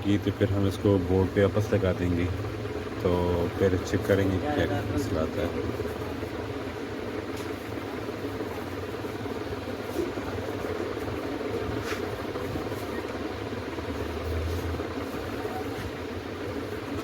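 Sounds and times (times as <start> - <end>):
background hum and rumble: 0.0 - 17.0.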